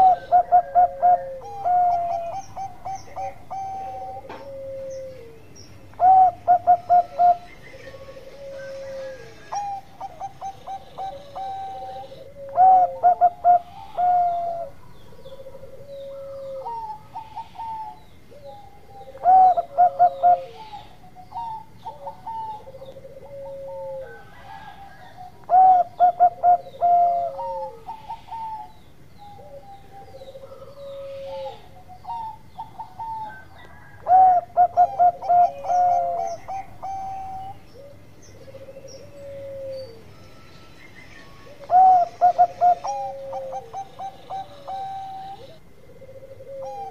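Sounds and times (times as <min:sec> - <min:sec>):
soft low dove coos: 0:00.0 - 0:40.1, 0:41.4 - 0:46.9
dove cooing song: 0:00.0 - 0:46.9.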